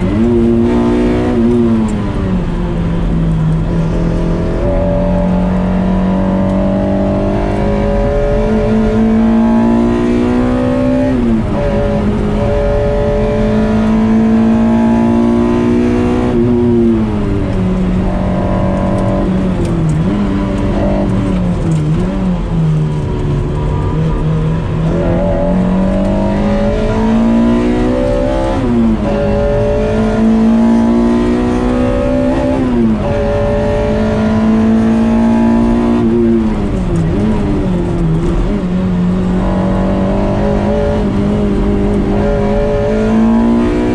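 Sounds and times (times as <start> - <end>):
car engine revving through gears: 0.0 - 43.9.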